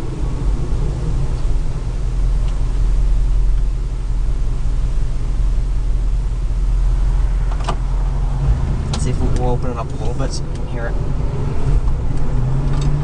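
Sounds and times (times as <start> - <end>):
car engine rumbling: 0.0 - 13.0
road noise: 0.0 - 13.0.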